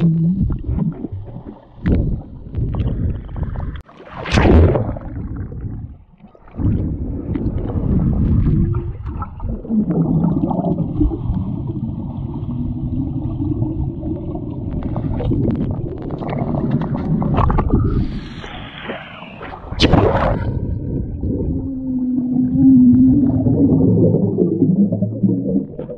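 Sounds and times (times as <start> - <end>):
muffled underwater churning and bubbling: 0.0 - 25.9.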